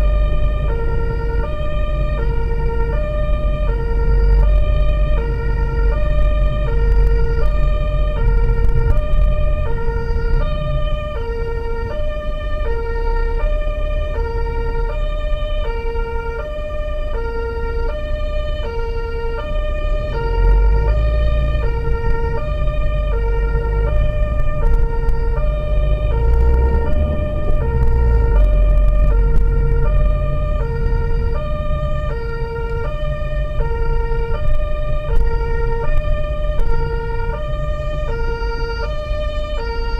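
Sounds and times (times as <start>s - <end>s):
engine and road rumble: 0.0s - 39.9s
two-tone emergency siren: 0.0s - 39.9s.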